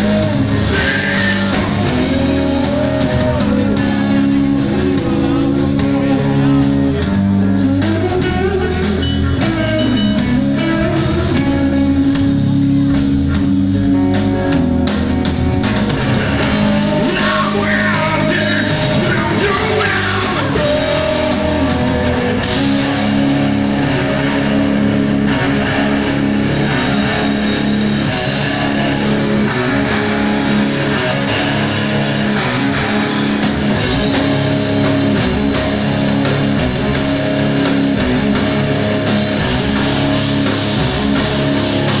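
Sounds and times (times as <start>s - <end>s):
drum kit: 0.0s - 42.0s
electric guitars: 0.0s - 42.0s.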